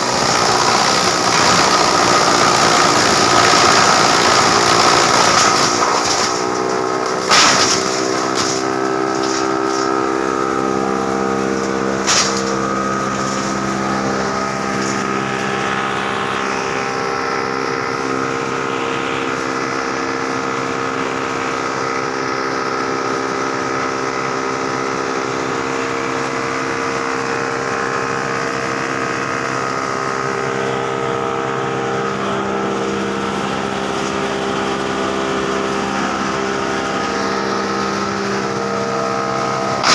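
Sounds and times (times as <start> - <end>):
wood chipper running: 0.0 - 39.9.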